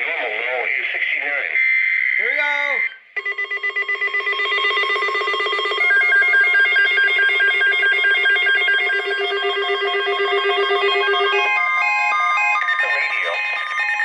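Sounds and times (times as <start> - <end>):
weather radio alert alarm: 1.4 - 5.0, 5.6 - 14.0.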